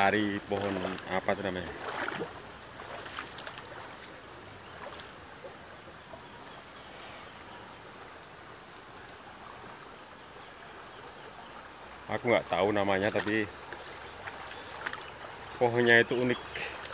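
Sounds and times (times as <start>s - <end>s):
river flowing over stones: 0.0s - 16.9s.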